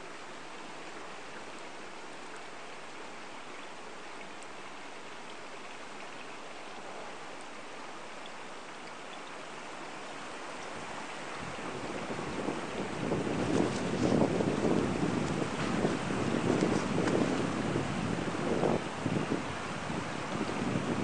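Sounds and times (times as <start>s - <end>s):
stream flowing: 0.0s - 21.0s.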